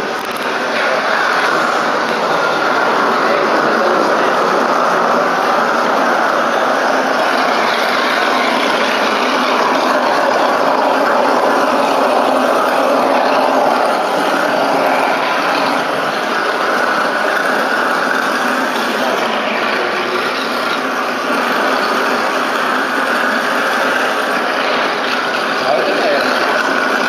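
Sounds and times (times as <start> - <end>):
machine running steadily: 0.0 - 27.0.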